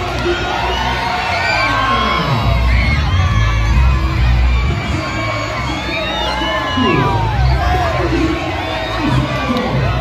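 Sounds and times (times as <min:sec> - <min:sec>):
crowd shouting and cheering: 0:00.0 - 0:10.0.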